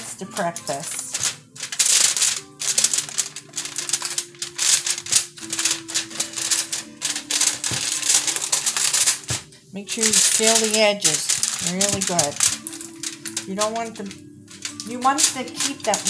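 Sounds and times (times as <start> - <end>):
aluminum foil crinkling: 0.0 - 16.0.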